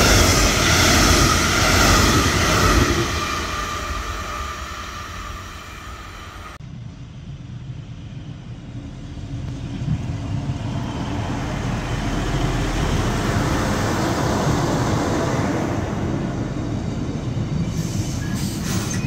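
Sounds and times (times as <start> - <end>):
diesel train engine rumbling: 0.0 - 19.0.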